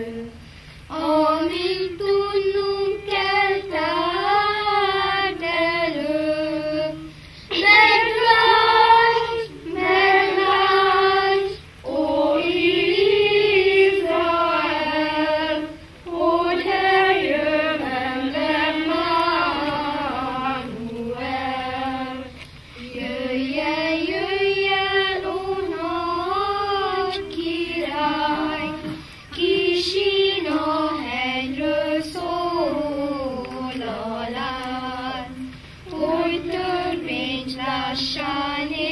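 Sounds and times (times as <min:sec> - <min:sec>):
children's choir singing: 0:00.0 - 0:38.9.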